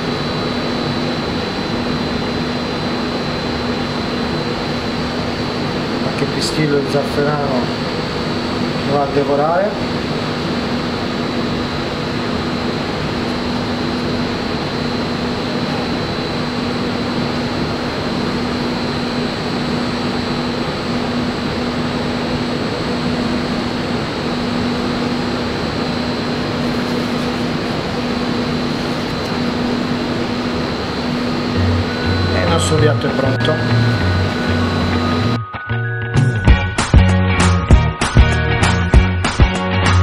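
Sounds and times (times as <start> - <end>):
ventilation fan running: 0.0 - 35.5.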